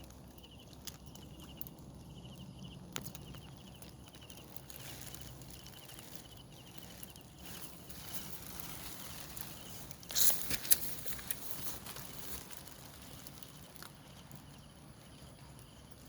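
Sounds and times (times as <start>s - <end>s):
light rain pattering: 0.0s - 16.0s.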